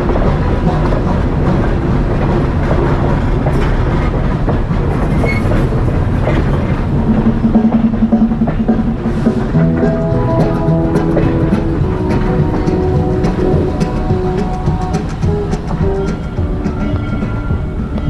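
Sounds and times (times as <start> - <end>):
train coaches rumbling past: 0.0 - 18.0
wheels clicking over rail joints: 0.0 - 18.0.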